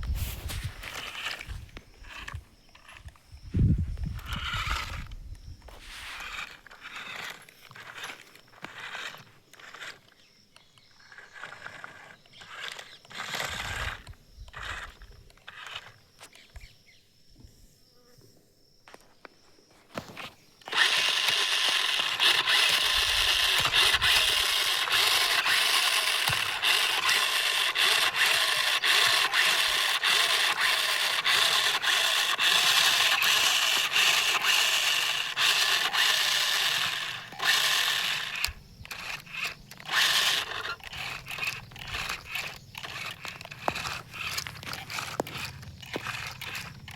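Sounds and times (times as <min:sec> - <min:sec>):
clicks and scrapes: 0:00.0 - 0:03.2, 0:05.7 - 0:16.6, 0:19.9 - 0:46.9
toy motor whirring buzz: 0:00.0 - 0:16.7, 0:20.0 - 0:46.9.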